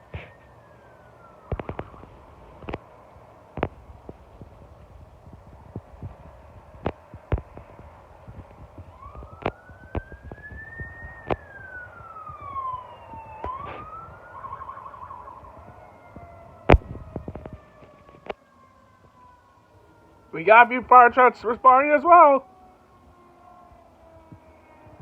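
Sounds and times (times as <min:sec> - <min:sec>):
muffled electronic siren: 0:00.0 - 0:25.0.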